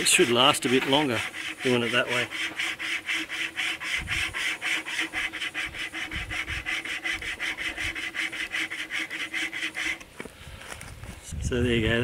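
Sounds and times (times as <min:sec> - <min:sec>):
wire saw cutting through log: 0:00.0 - 0:10.1.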